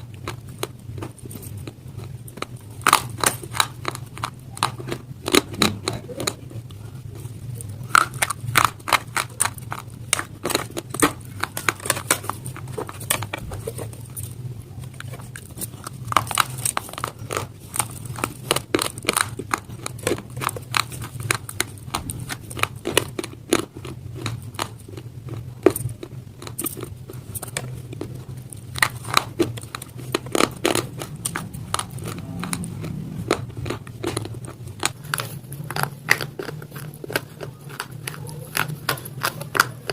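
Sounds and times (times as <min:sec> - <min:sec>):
chewing hard stone: 0:00.0 - 0:39.9
steady low hum: 0:00.0 - 0:39.9.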